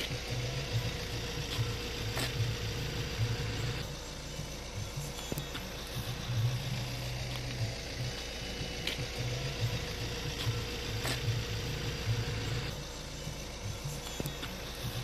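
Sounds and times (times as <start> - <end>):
steady hum: 0.0 - 15.0
vehicle engine idling: 0.0 - 15.0.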